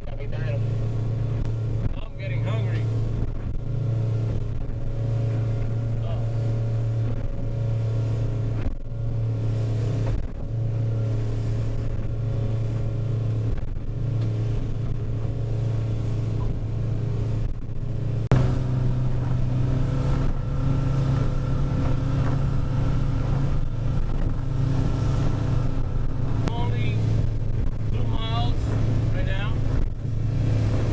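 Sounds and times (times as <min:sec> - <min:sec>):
boat engine droning: 0:00.0 - 0:30.9.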